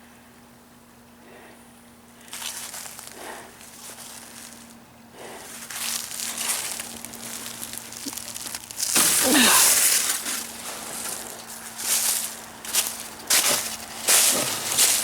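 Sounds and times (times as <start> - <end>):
ice crunch and crackle: 2.2 - 4.8, 5.4 - 15.0
footsteps crunching on ice: 2.3 - 15.0.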